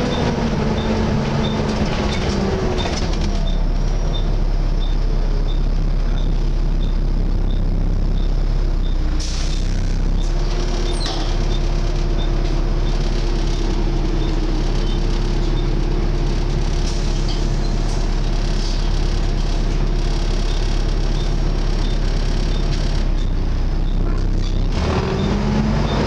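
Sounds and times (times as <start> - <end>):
bus engine running: 0.0 - 26.0.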